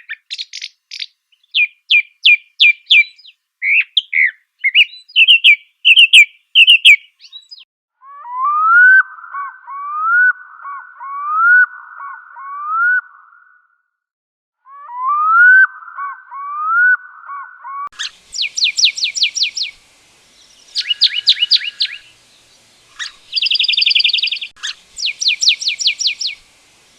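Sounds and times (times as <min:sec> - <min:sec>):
songbird singing: 0:00.0 - 0:13.7, 0:14.7 - 0:26.9
rising whistled bird call: 0:00.0 - 0:13.8, 0:14.7 - 0:19.8, 0:20.4 - 0:22.2, 0:22.9 - 0:26.5.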